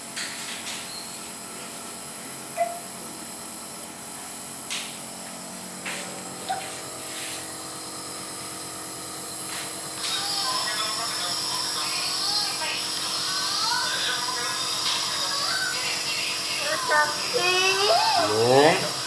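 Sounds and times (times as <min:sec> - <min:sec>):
nebuliser compressor humming: 0:00.0 - 0:19.0.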